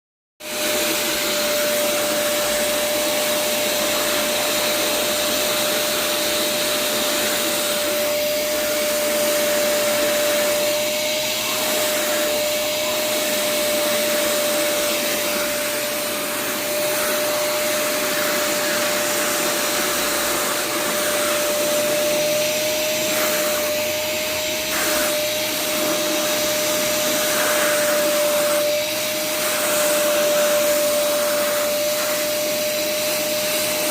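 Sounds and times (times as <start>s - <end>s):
vacuum cleaner running: 0.4s - 33.9s.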